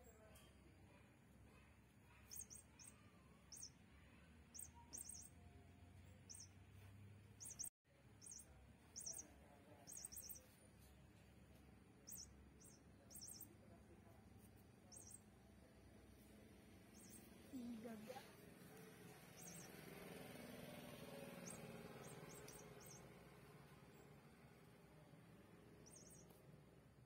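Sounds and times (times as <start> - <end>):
small bird chirping: 0.0 - 27.0.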